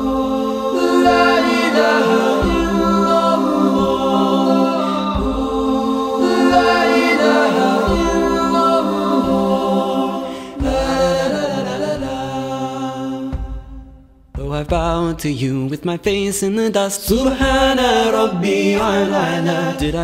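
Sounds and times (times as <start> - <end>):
voices singing devotional chords: 0.0 - 14.8, 17.0 - 20.0.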